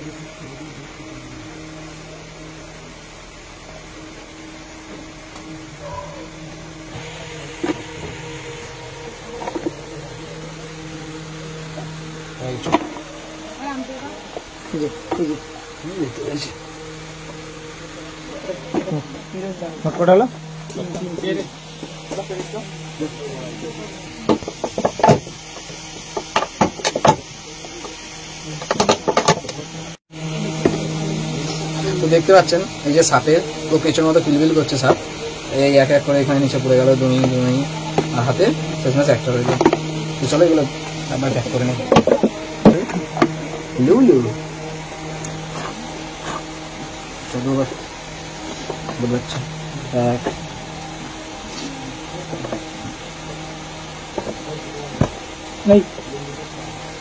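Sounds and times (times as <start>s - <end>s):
electric motor humming: 0.0s - 57.0s.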